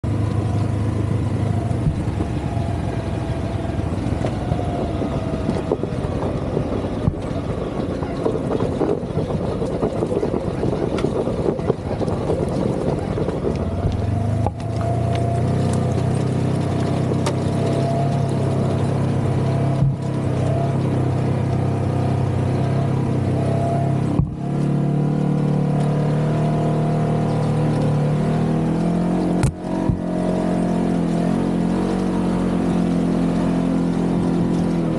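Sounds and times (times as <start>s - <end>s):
off-road vehicle engine running: 0.0s - 34.9s.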